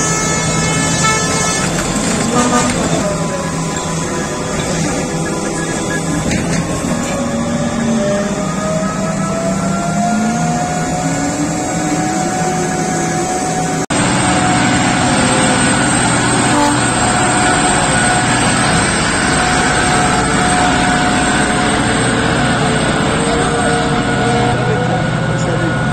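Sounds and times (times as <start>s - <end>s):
haul truck diesel engine: 0.0s - 25.9s
rising whining tones: 0.0s - 25.9s.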